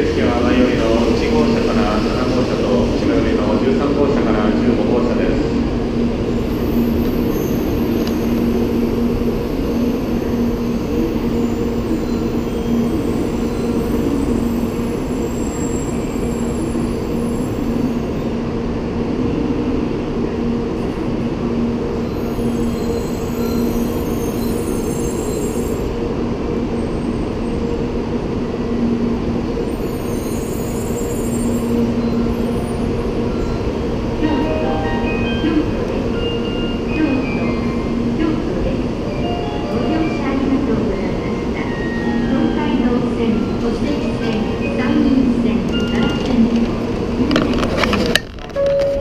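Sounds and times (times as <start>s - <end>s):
train rumbling to a stop: 0.0s - 49.0s.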